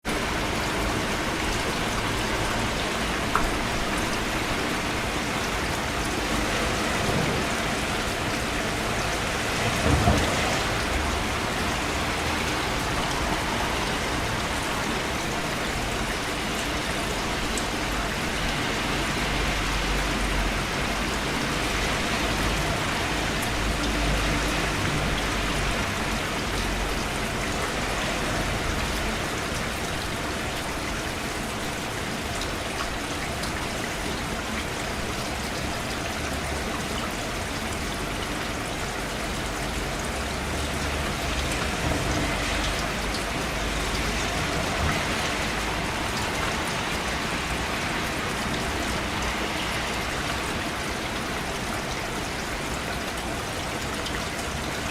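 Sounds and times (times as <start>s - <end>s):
rain pattering on surfaces: 0.0s - 54.9s.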